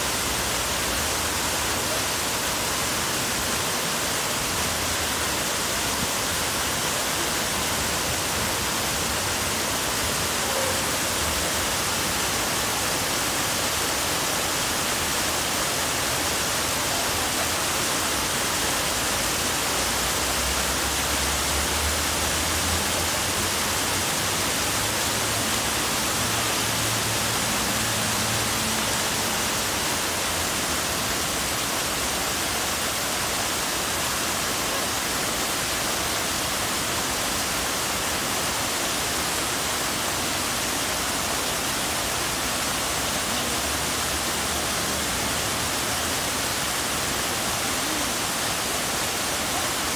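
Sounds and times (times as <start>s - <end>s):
fountain water splashing: 0.0s - 49.9s.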